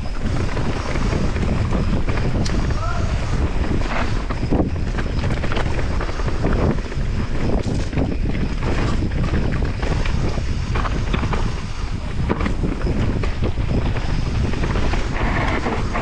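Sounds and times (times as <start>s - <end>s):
bike rattles and knocks: 0.0s - 16.0s
tyres rumbling on dirt: 0.0s - 16.0s
wind buffeting microphone: 0.0s - 16.0s.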